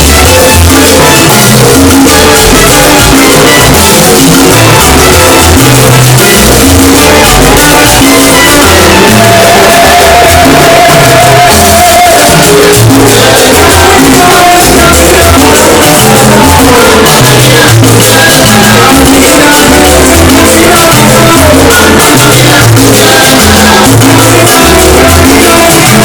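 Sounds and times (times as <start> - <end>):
latin dance music: 0.0 - 26.0.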